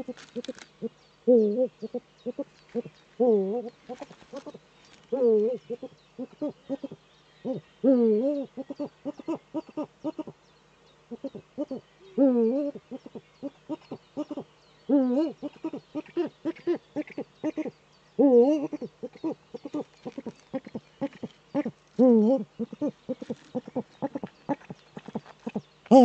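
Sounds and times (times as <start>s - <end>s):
owl hooting: 0.0s - 10.4s, 11.1s - 26.0s.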